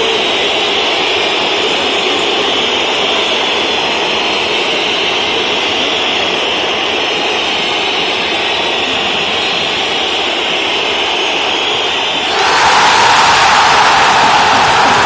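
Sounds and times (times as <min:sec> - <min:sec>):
crowd din: 0:00.0 - 0:15.0
crowd whistling: 0:00.0 - 0:15.0.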